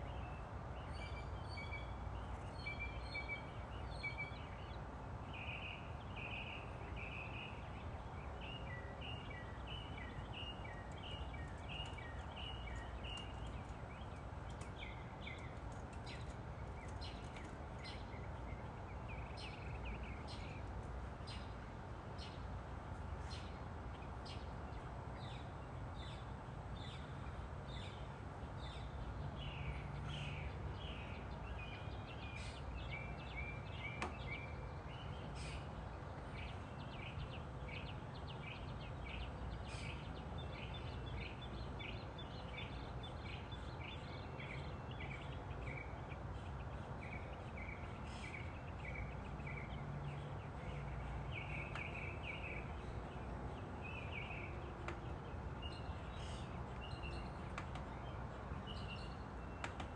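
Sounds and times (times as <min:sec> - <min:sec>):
birds chirping: 0:00.1 - 0:22.5, 0:23.2 - 0:59.9.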